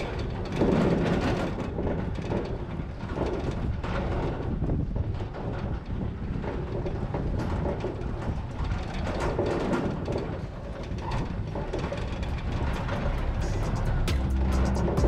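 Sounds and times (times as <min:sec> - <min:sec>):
low rumble of tyres: 0:00.0 - 0:15.0
metal trailer rattling and clanking: 0:00.0 - 0:15.0.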